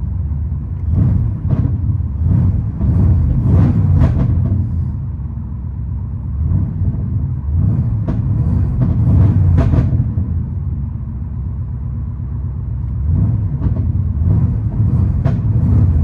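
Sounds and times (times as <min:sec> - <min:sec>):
deep engine exhaust rumble: 0:00.0 - 0:16.0.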